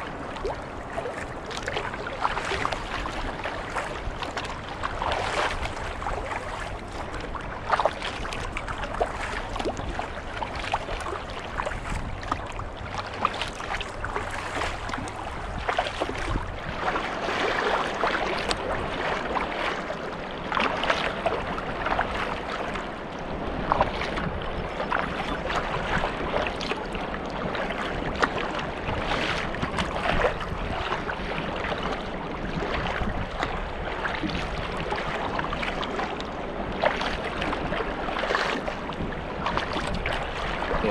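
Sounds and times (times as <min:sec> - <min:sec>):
steady rush of water: 0:00.0 - 0:40.9
water splashing from paddle: 0:00.0 - 0:40.9
waves slapping hull: 0:00.0 - 0:40.9
wind on microphone: 0:00.0 - 0:40.9.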